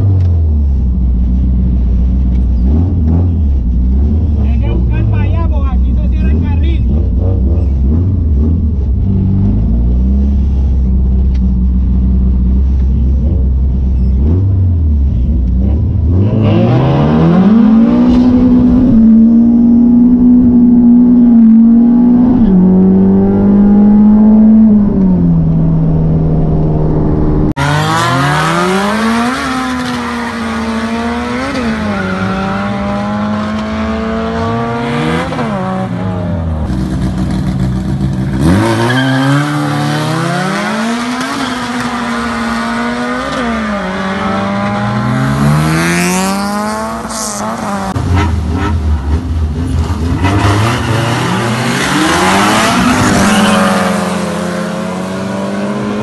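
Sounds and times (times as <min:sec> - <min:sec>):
cars revving: 0:00.0 - 0:56.0
race car engine accelerating: 0:00.0 - 0:56.0.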